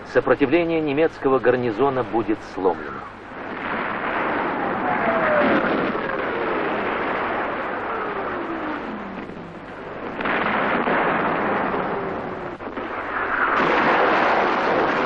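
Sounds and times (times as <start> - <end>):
rocket launchers firing: 2.5 - 15.0.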